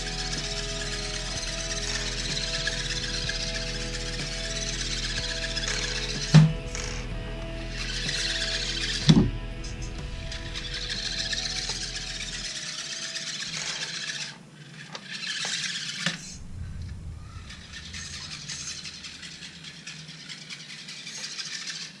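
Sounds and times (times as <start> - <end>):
toy car motor whirring: 0.0 - 16.4, 17.4 - 22.0.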